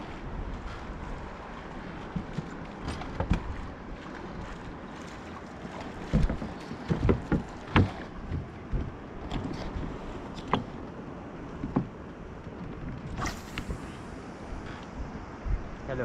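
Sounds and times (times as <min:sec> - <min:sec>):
water noise: 0:00.0 - 0:16.0
wind: 0:00.0 - 0:16.0
knocks and thumps on boat: 0:00.6 - 0:13.9.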